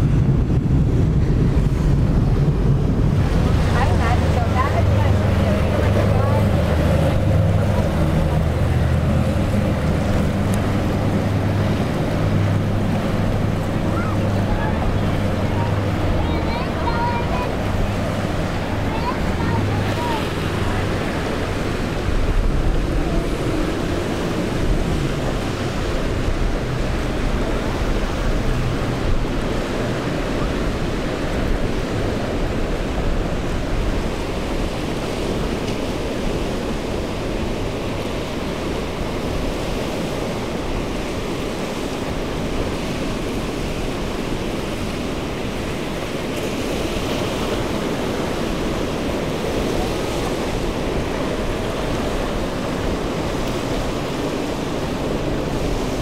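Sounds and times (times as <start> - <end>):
rough surf breaking: 0.0 - 56.0
wind buffeting microphone: 0.0 - 56.0.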